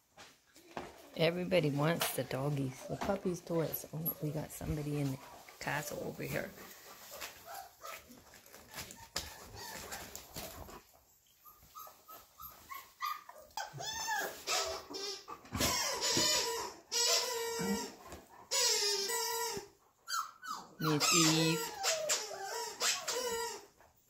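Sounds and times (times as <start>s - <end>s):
puppies whining and yelping: 2.4s - 24.0s.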